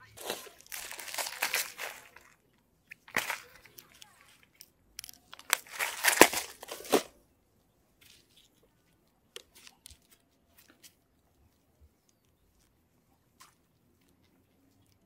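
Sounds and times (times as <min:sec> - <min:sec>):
faint clicks and rustles: 0:00.0 - 0:15.0.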